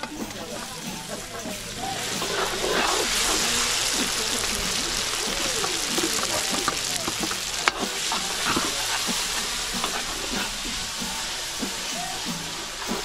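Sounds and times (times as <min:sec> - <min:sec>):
stirring knocks and scrapes: 0:00.0 - 0:11.8
meat sizzling in pan: 0:00.1 - 0:13.0.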